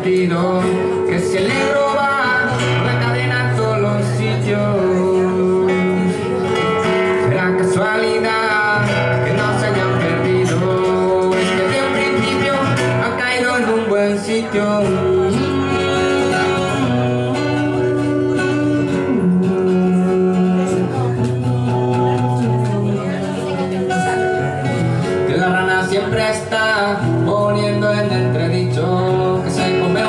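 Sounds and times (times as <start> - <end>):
acoustic guitar playing: 0.0 - 30.0
man singing: 0.0 - 30.0.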